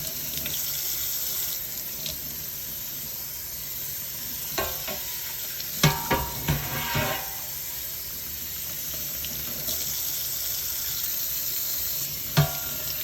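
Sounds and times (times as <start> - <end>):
running water rinsing metal: 0.0 - 13.0.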